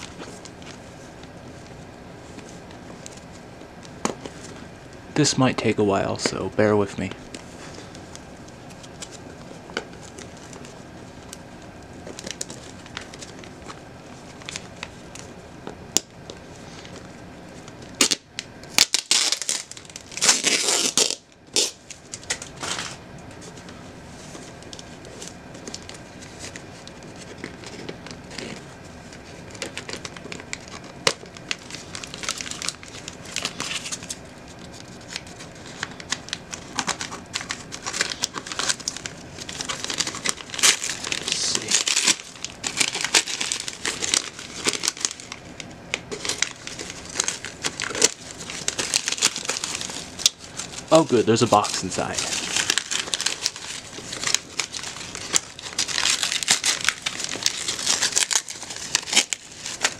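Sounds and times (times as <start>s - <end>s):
paper parcel rustling and tearing: 4.1s - 15.3s, 18.8s - 59.9s.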